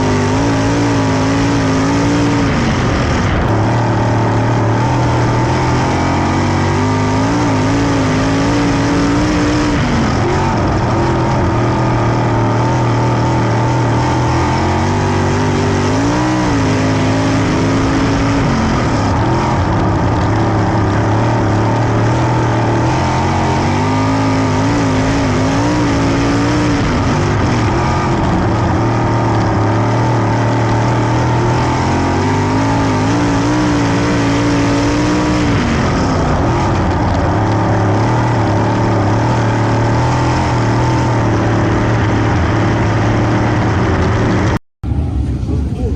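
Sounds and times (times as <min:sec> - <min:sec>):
race car engines droning: 0:00.0 - 0:45.9.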